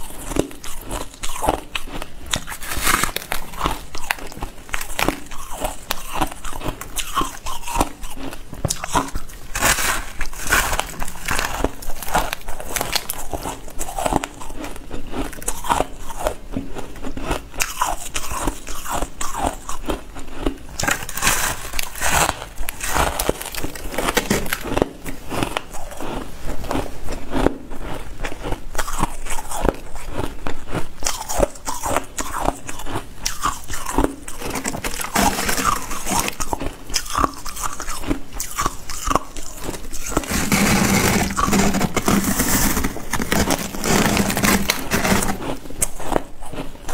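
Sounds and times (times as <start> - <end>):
person crunching ice: 0.0 - 46.9.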